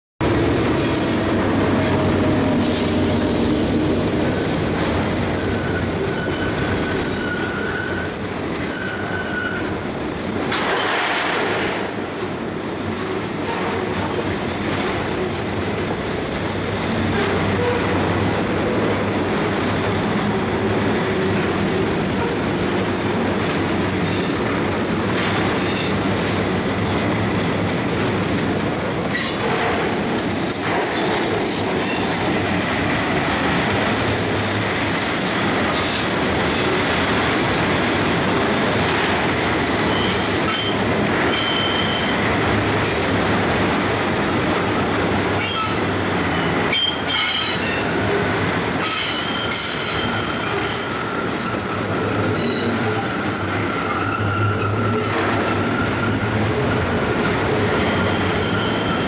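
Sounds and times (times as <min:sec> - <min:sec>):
diesel locomotive passing: 0:00.2 - 0:59.0
train clanks: 0:00.2 - 0:59.0
train wheels rolling on rails: 0:00.2 - 0:59.0
high wheel squeal: 0:00.4 - 0:59.0.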